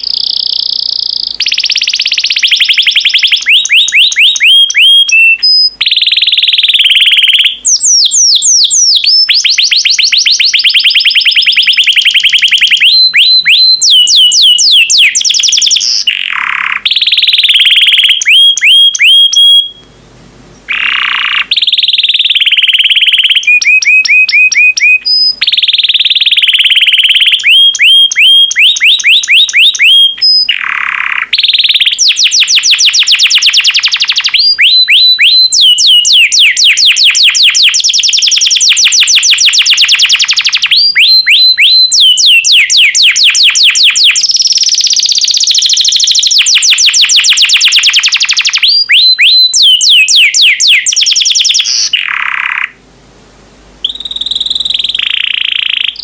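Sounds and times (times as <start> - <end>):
canary singing: 0.0 - 52.8, 53.8 - 56.0.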